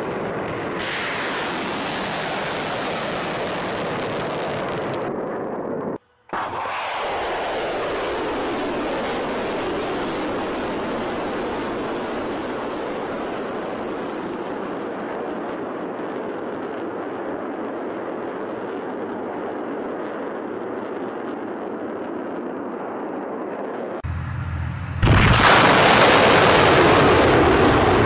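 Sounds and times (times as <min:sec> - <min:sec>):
deep rumble: 0:00.0 - 0:28.0.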